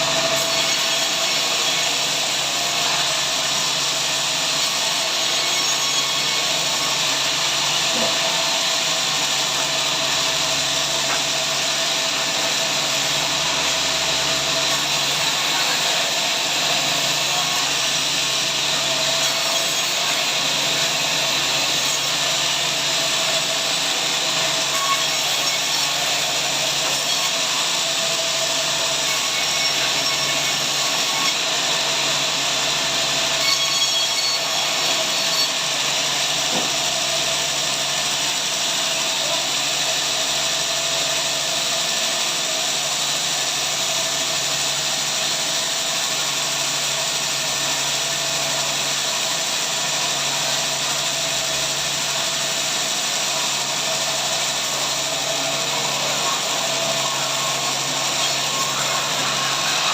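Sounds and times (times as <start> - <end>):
power saw cutting log: 0.0 - 59.9.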